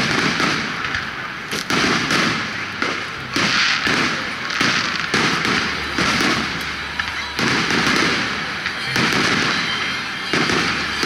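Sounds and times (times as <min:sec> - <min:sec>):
fireworks bursting with echo: 0:00.0 - 0:11.0.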